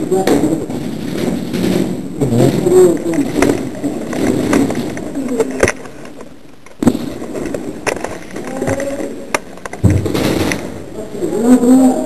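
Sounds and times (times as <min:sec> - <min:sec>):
sharp cracks: 0:00.0 - 0:11.1.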